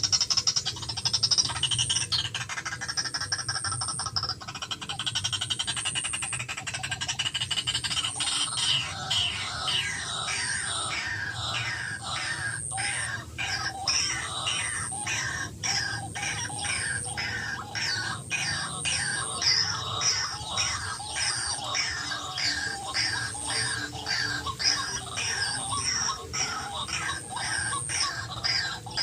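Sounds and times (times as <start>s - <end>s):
bird calling repeated notes: 0.0s - 29.0s.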